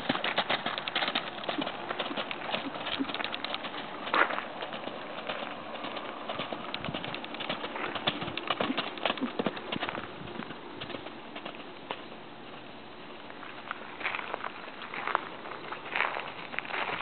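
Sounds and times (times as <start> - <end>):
horse hoofbeats on gravel: 0.0 - 17.0.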